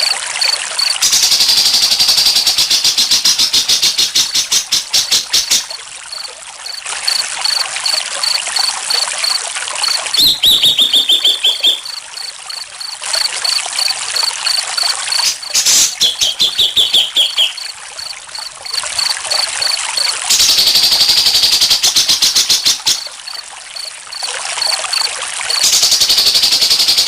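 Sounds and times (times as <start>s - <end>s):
cricket chirping: 0.0s - 27.0s
songbird calling: 0.0s - 27.0s
water trickling: 0.0s - 27.0s.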